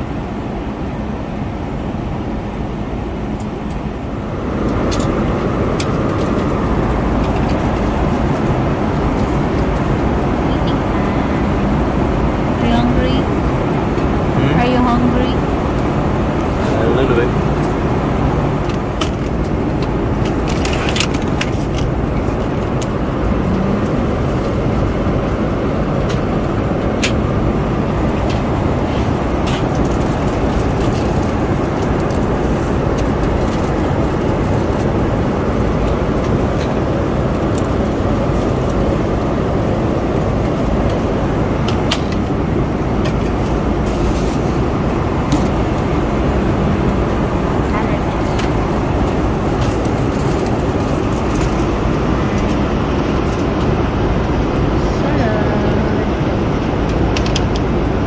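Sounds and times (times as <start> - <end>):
airliner cabin engine roar: 0.0 - 58.0.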